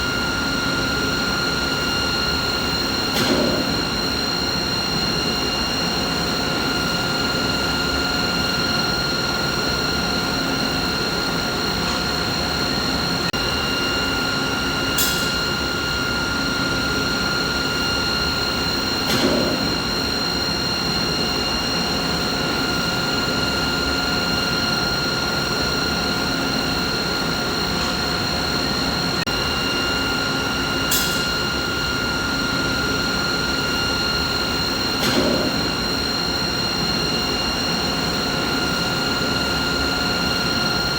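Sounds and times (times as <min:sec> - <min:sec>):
machinery hum with high whine: 0:00.0 - 0:40.9.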